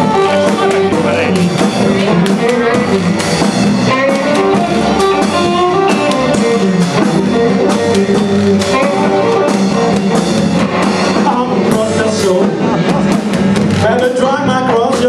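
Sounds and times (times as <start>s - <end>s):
bass: 0.0s - 15.0s
drums: 0.0s - 15.0s
electric guitars: 0.0s - 15.0s.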